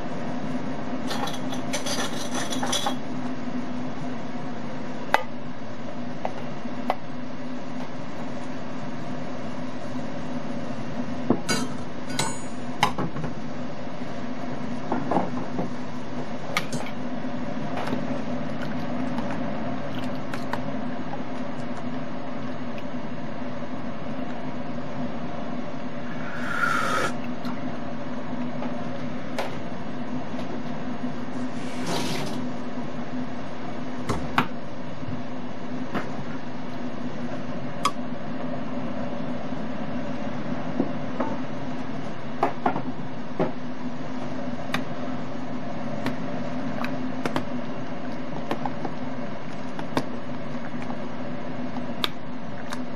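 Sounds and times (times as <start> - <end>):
broth boiling in a pot: 0.0 - 52.9
gas stove hiss and hum: 0.0 - 52.9.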